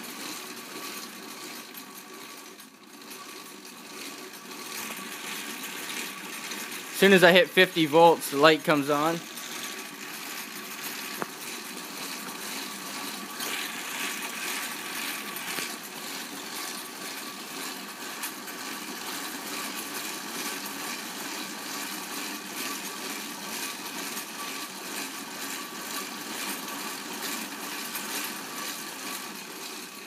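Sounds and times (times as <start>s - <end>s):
exercise bike whirring and ticking: 0.0s - 30.0s.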